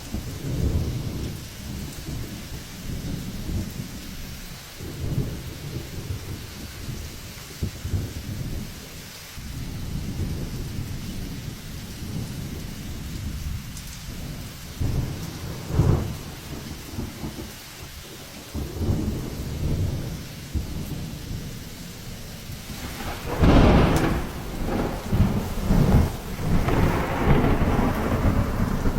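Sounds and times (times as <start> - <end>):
rain: 0.0 - 28.9
wind rumbling and gusting: 0.0 - 28.9.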